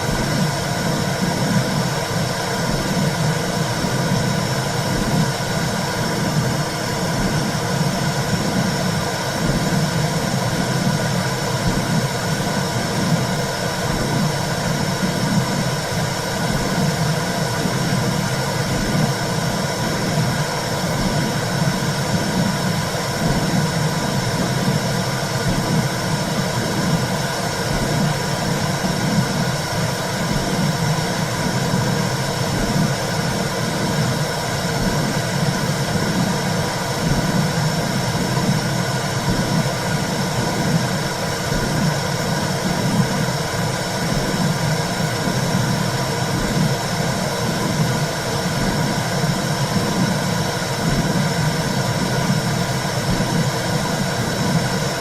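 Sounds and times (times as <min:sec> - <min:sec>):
heartbeat-like pulse: 0:00.0 - 0:55.0.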